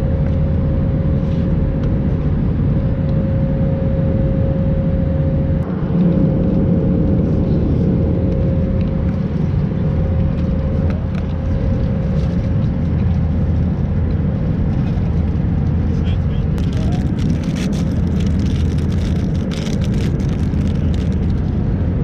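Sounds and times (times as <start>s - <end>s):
airplane cabin engine rush: 0.0s - 22.0s
constant hum: 0.0s - 22.0s.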